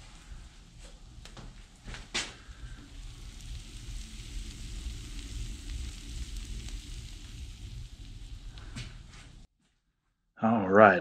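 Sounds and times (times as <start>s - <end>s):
sharp crack of burning wood: 0.0s - 9.5s
wood fire crackling: 0.0s - 9.5s.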